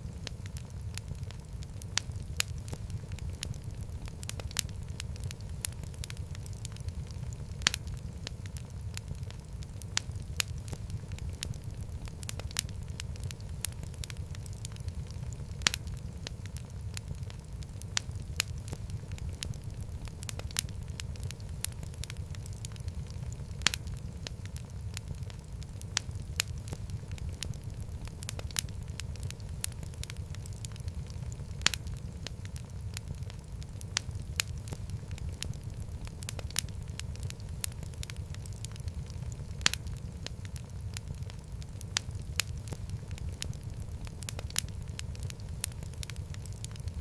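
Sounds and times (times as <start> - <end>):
fire crackling and popping: 0.0 - 47.0
fire rumbling: 0.0 - 47.0.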